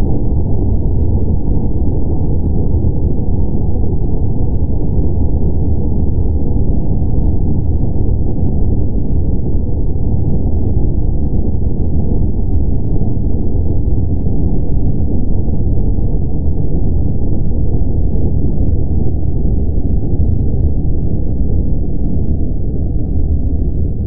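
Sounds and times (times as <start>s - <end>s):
dense low rumble: 0.0s - 24.0s.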